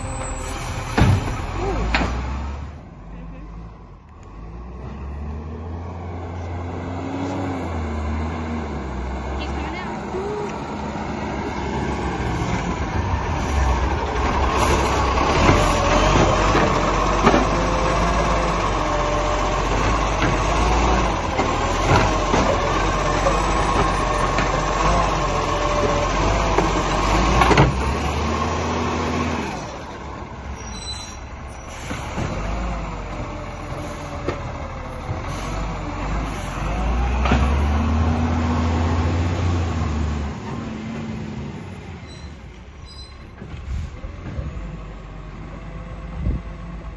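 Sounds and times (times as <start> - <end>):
garbage truck engine running: 7.8 - 46.9.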